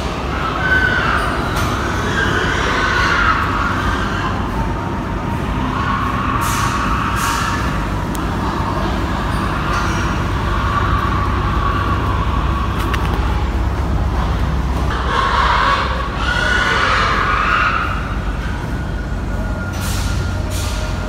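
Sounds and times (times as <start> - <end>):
pigs squealing: 0.0 - 13.4, 14.9 - 18.8
low rumble: 1.3 - 21.0.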